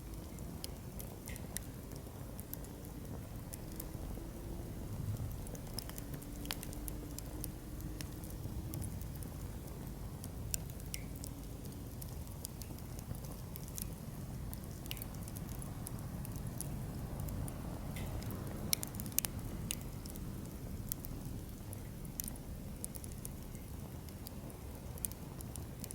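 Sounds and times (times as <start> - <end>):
low fire rumble: 0.0 - 25.9
campfire crackling and popping: 0.1 - 25.9.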